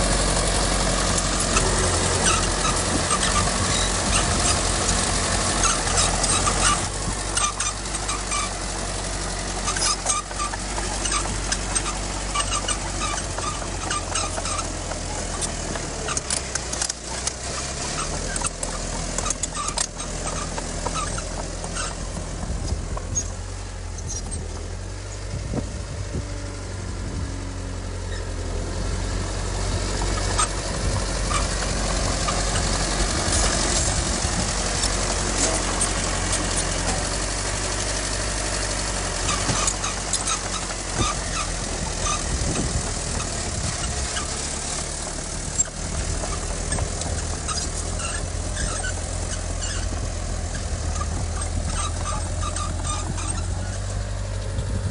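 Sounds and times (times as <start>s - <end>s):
heavy machinery engine drone: 0.0s - 54.9s
machinery clanking and rattling: 0.0s - 54.9s.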